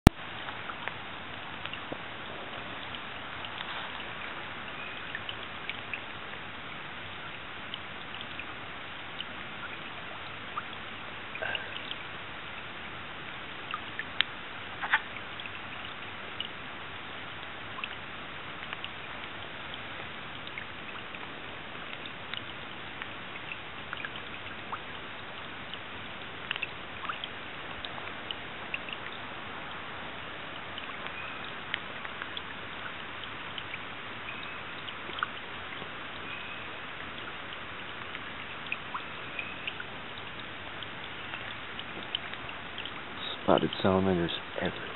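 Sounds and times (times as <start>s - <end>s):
steady hiss: 0.2s - 44.9s.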